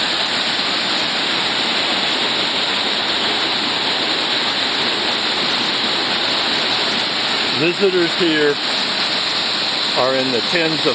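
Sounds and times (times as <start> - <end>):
waterfall rushing water: 0.0 - 10.9.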